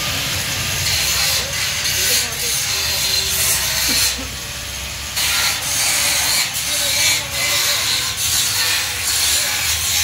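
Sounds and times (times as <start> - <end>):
angle grinder grinding steel: 0.0 - 10.0.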